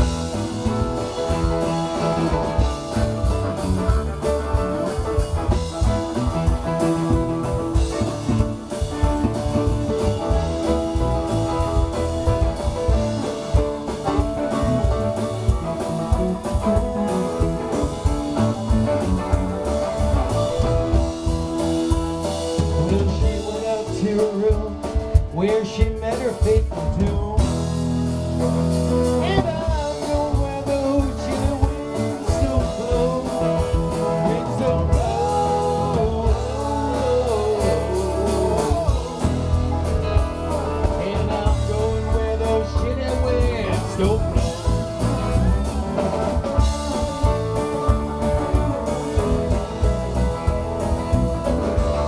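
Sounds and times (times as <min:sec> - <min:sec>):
bass guitar: 0:00.0 - 0:52.0
drum kit: 0:00.0 - 0:52.0
electric guitar: 0:00.0 - 0:52.0
keyboards: 0:00.0 - 0:52.0.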